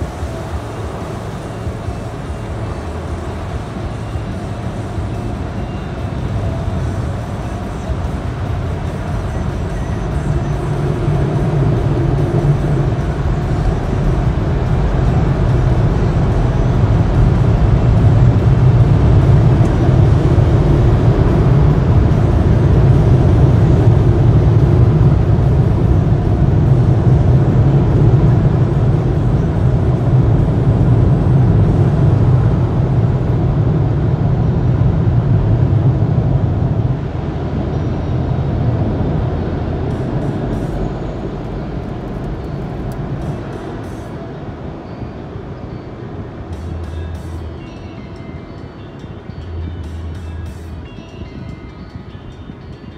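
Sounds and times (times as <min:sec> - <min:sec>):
car wash air dryers blowing: 0:00.0 - 0:52.7.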